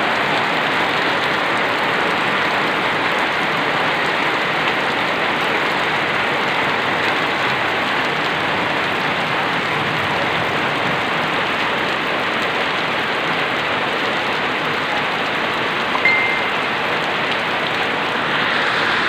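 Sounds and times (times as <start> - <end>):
heavy rain on pavement and leaves: 0.0 - 19.0.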